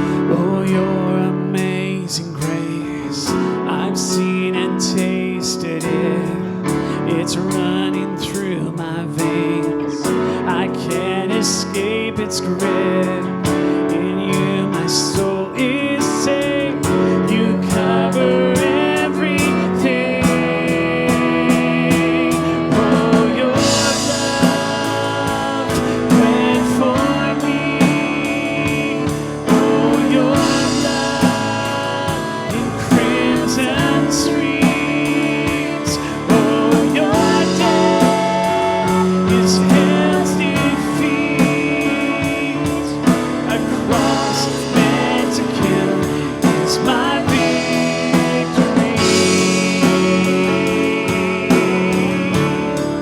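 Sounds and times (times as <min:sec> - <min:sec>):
drum kit beat: 0:00.0 - 0:53.0
guitar: 0:00.0 - 0:53.0
live worship band playing: 0:00.0 - 0:53.0
person singing: 0:00.0 - 0:53.0.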